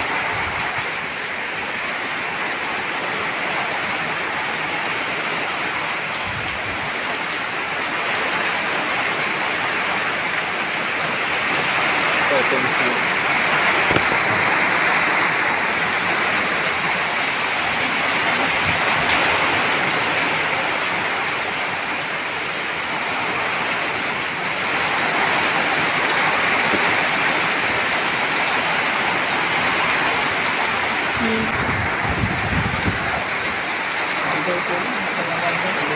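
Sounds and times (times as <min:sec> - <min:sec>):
heavy rain pouring on foliage: 0:00.0 - 0:35.9.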